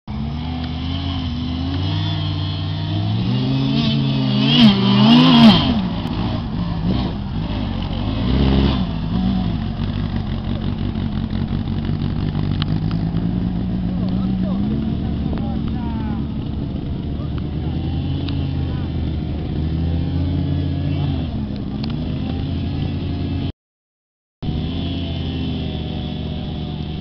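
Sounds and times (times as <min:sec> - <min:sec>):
off-road vehicle engine revving: 0:00.1 - 0:23.5, 0:24.4 - 0:27.0.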